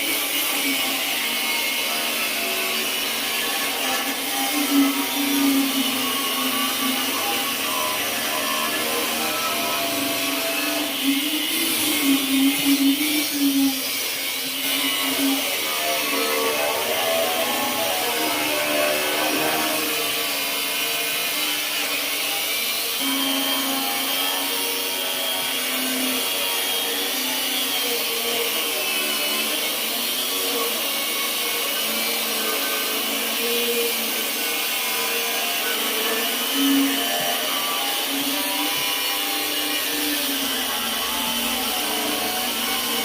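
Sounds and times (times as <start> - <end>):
angle grinder grinding: 0.0 - 43.0.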